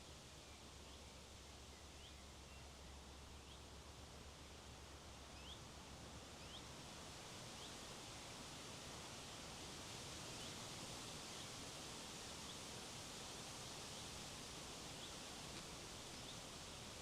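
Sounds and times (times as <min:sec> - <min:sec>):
faint wind: 0:00.0 - 0:17.0.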